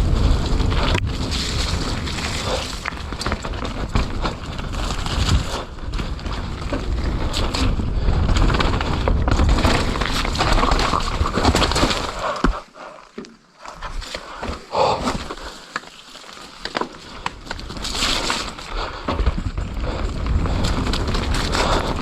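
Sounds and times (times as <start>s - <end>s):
bike knocks and rattles: 0.0s - 13.2s, 16.4s - 22.0s
tyres on dirt: 0.0s - 22.0s.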